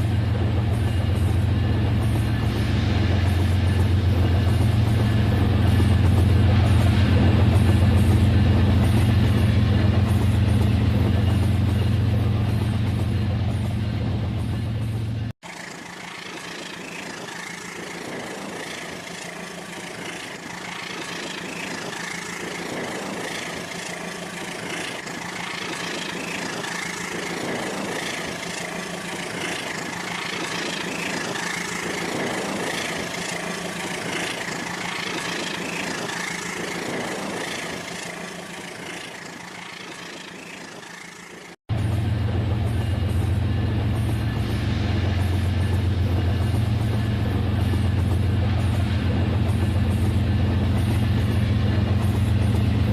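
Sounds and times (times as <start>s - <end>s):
wheels rattling on track: 0.0s - 52.9s.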